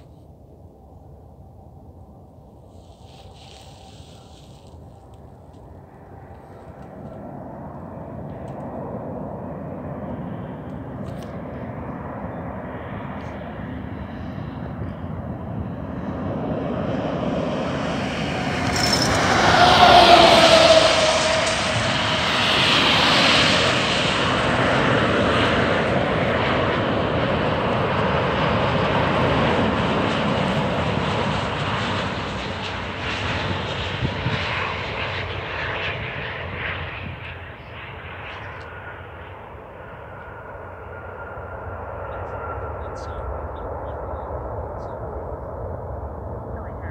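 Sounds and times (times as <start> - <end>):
jet engines on approach: 0.0 - 46.9
jet falling whine: 2.6 - 46.9.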